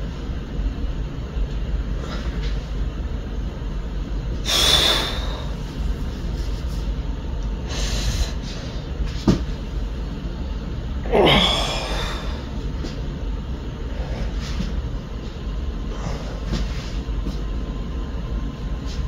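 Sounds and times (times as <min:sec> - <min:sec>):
low room rumble: 0:00.0 - 0:19.0.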